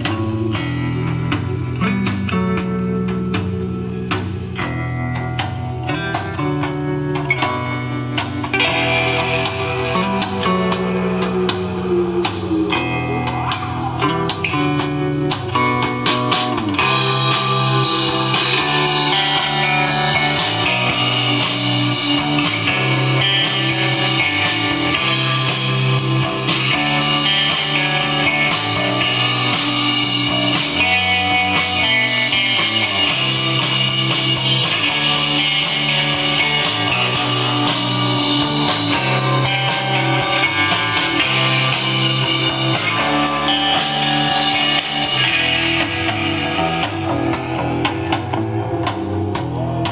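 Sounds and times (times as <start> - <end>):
guitar music with steady beat: 0.0 - 49.9.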